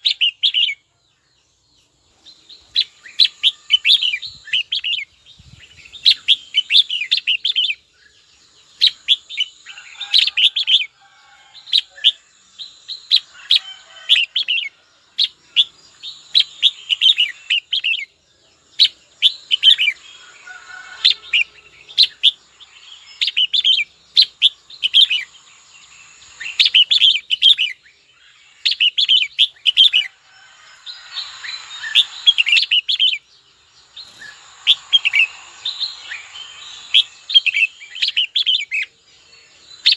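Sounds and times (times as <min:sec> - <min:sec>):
bulbul chirping song: 0:00.0 - 0:39.9.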